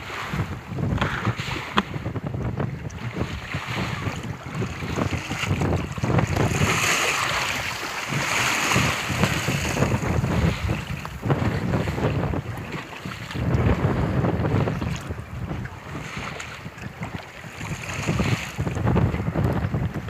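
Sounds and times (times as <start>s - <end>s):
rushes of water: 0.0s - 20.0s
water washing against boat hull: 0.0s - 20.0s
wind buffeting microphone: 0.0s - 20.0s.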